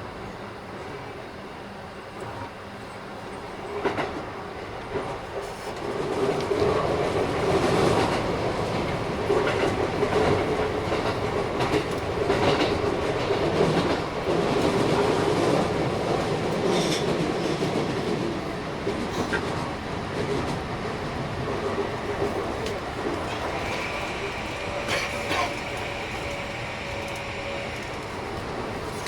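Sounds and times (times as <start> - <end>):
train hum: 0.0 - 29.0.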